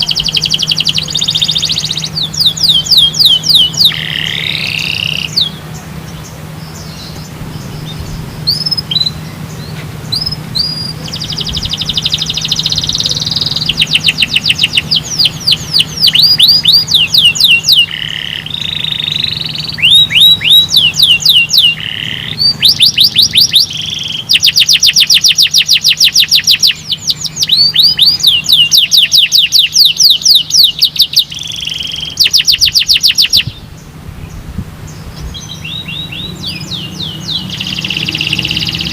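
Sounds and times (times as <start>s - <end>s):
canary singing trills: 0.0s - 38.9s
low steady hum: 0.0s - 38.9s.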